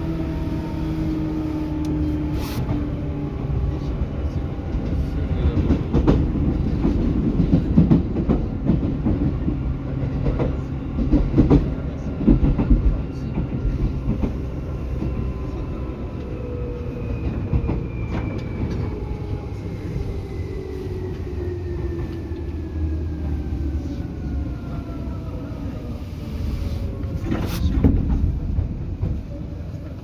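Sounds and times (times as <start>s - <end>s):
train wheel and floor rumble: 0.0s - 30.0s.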